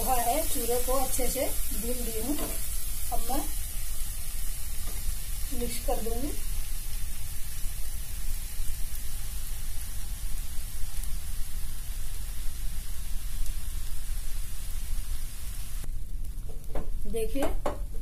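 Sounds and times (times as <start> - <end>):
peas sizzling in oil: 0.0 - 18.0.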